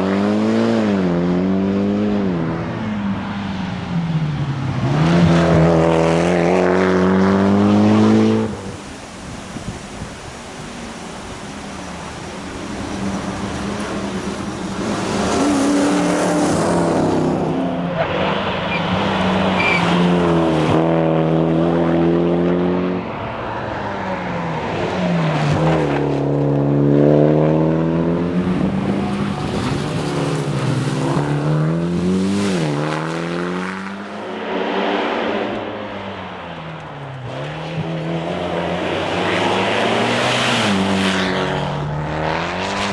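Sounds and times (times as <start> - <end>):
car engine accelerating hard: 0.0 - 8.9, 12.7 - 42.9.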